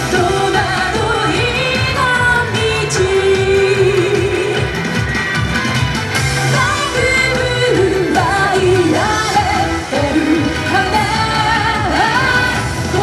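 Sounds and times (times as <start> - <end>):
pop band backing: 0.0 - 13.0.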